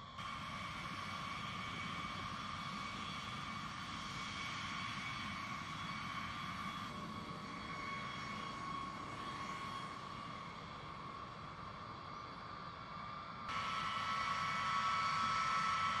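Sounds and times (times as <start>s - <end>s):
jet engines whining and rumbling: 0.0s - 16.0s.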